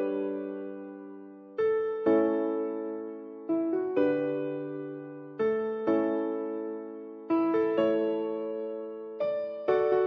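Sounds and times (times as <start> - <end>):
soft piano notes: 0.0 - 10.0.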